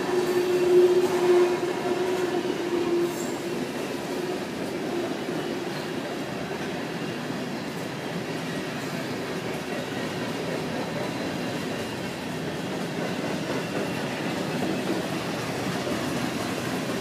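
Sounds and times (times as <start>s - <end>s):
freight train wheels rolling: 0.0s - 17.0s.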